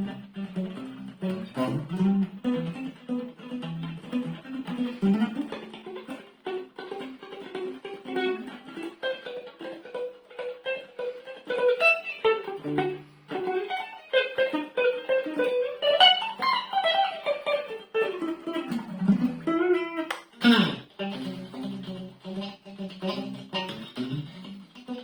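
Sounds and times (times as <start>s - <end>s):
clean electric guitar playing: 0.0s - 25.0s.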